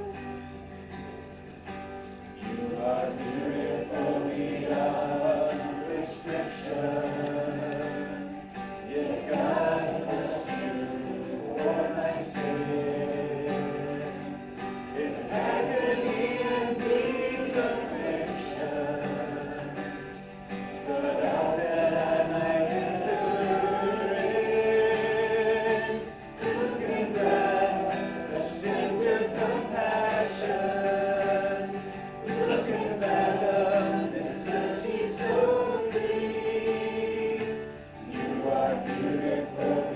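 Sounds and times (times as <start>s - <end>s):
congregation singing in unison: 0.0s - 39.9s.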